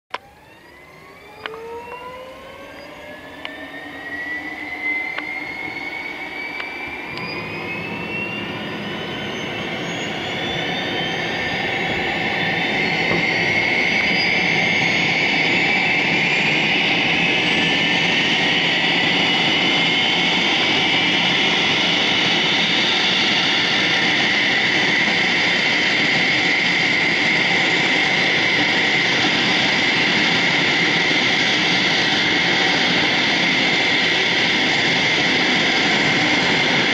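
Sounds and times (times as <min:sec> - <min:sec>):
jet engines whining: 0:00.1 - 0:36.9.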